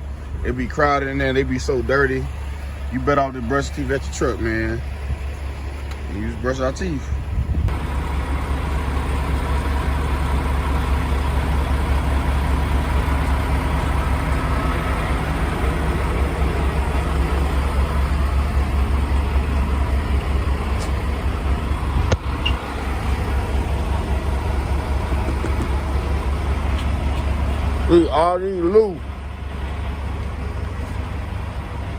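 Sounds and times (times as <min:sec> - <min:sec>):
diesel truck engine idling: 0:00.0 - 0:31.9.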